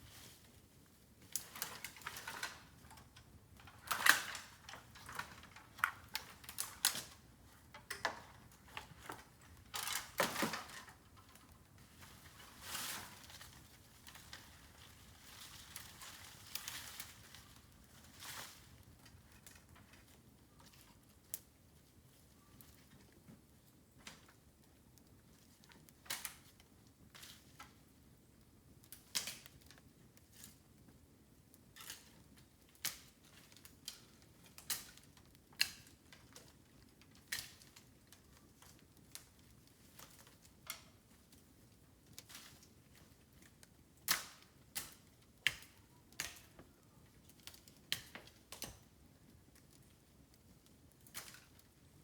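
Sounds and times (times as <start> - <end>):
bamboo fire crackling and popping: 0.0 - 52.0.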